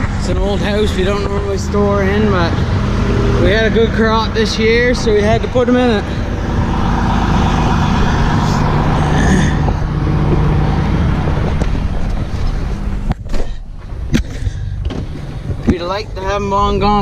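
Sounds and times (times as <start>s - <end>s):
farm vehicle engine humming: 0.0s - 17.0s.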